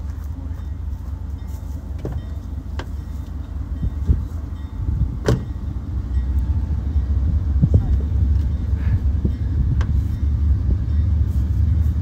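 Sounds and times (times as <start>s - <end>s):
diesel freight train rumbling: 0.0s - 12.0s.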